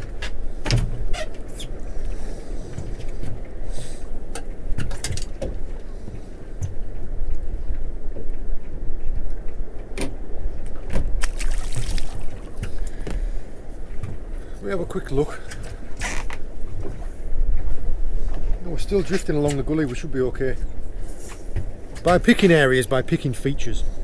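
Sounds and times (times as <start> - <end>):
water around boat: 0.0 - 24.0.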